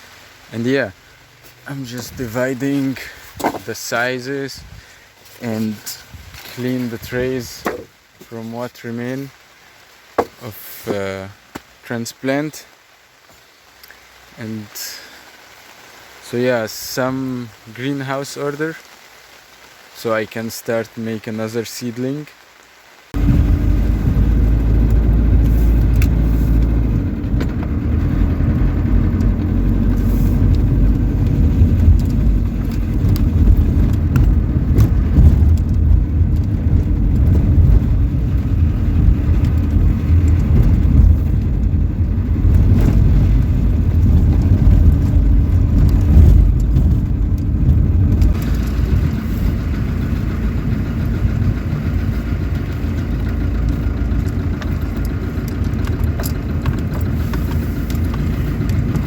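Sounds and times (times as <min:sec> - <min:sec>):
vehicle engine and road rumble: 0:00.0 - 0:20.0, 0:21.9 - 0:59.0.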